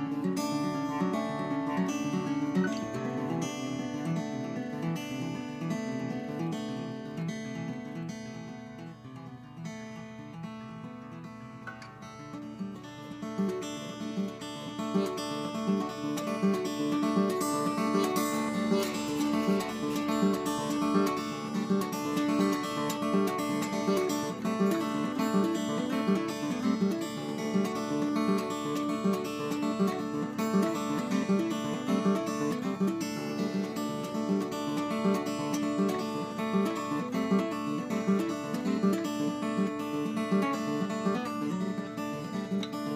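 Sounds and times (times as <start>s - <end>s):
fingerstyle acoustic guitar: 0.0s - 42.9s.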